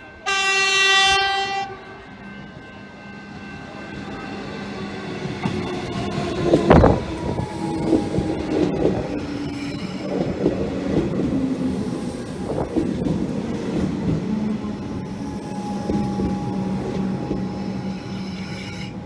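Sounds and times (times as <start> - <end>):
steady train hum: 0.0 - 19.0
train clunk: 2.2 - 19.0.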